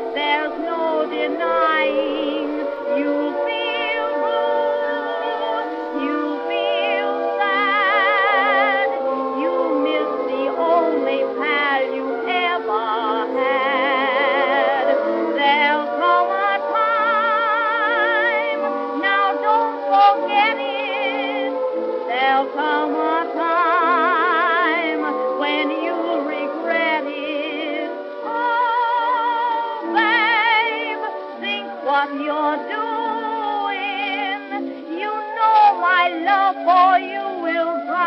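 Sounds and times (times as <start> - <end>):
sustained chords: 0.0 - 37.6
voice-like melody with vibrato: 0.0 - 38.0.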